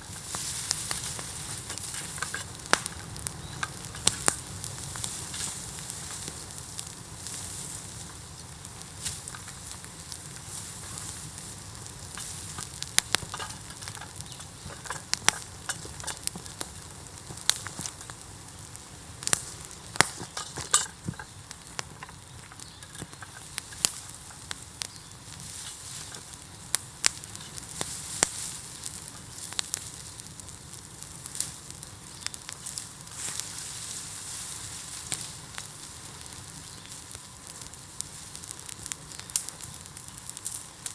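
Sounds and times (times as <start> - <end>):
bamboo crackling and popping: 0.0 - 40.9
bonfire hissing: 0.0 - 40.9.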